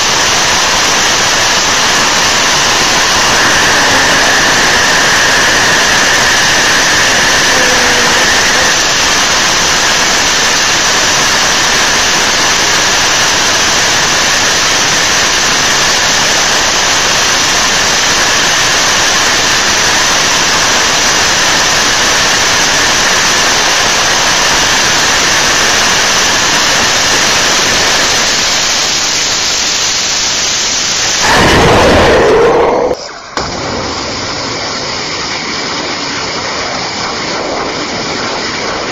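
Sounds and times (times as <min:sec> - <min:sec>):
rocket engine firing: 0:00.0 - 0:38.9.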